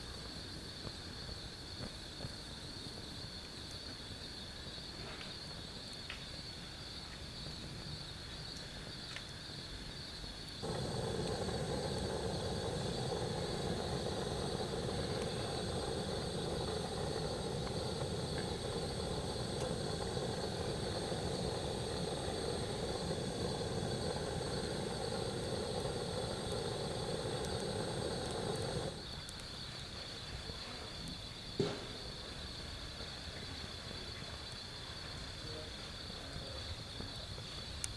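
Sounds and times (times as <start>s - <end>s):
night insects chorus: 0.0s - 37.9s.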